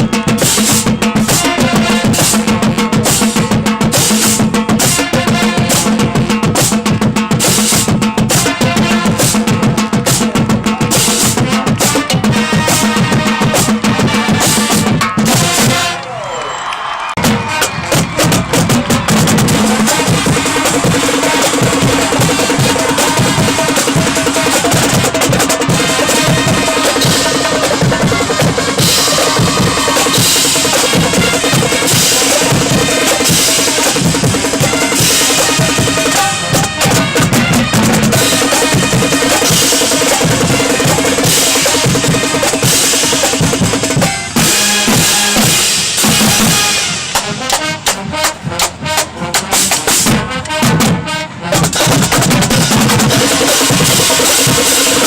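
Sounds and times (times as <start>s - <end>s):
drumline drums and cymbals: 0.0s - 55.0s
marching band playing: 0.0s - 55.0s.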